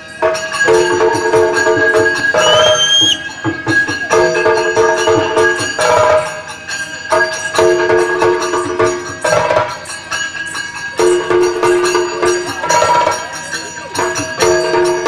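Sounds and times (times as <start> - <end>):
rapid drums: 0.0 - 15.0.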